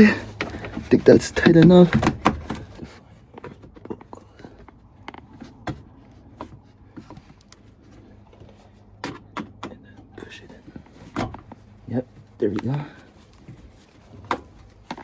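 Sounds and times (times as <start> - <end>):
hands handling car parts: 0.0 - 15.0.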